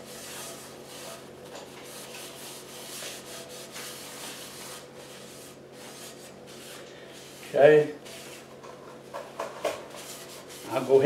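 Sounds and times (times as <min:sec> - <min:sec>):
paper towel scrubbing skillet: 0:00.0 - 0:01.2, 0:01.8 - 0:08.5, 0:09.9 - 0:11.0.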